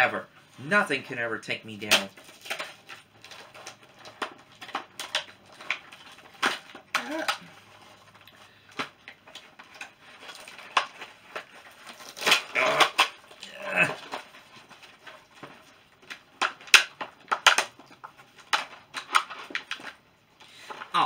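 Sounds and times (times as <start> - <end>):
plastic packaging clicks and crinkles: 0.0 - 21.0.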